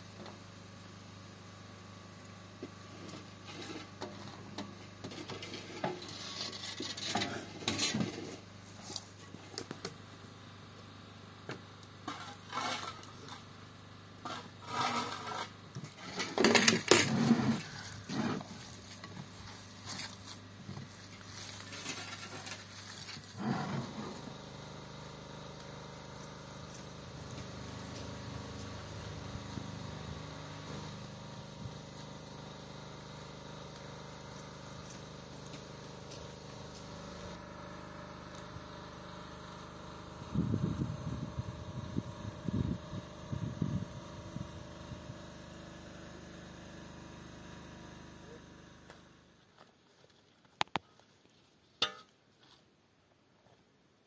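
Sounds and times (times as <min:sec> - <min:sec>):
steady low hum: 0:00.0 - 0:49.6.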